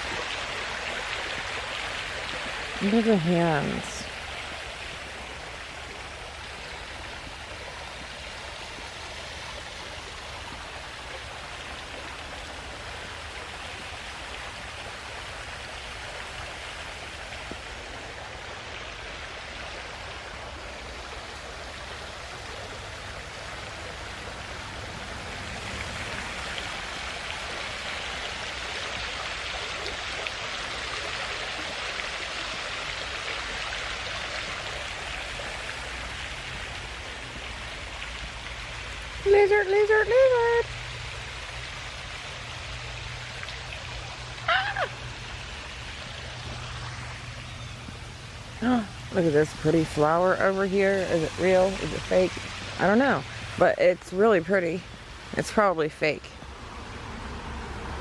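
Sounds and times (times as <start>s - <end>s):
waterfall rushing into pool: 0.0s - 58.0s.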